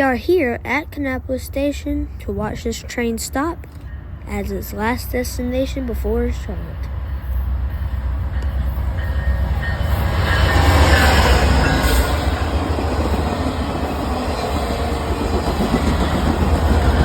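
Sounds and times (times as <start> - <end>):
train rumble: 0.0 - 17.0
train wheels over rail joints: 0.0 - 17.0.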